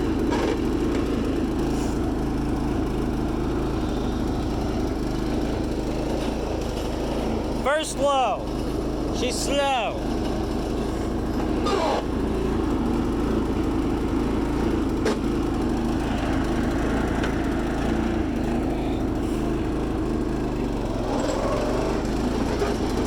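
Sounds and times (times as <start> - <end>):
garden tractor engine running: 0.0 - 23.0.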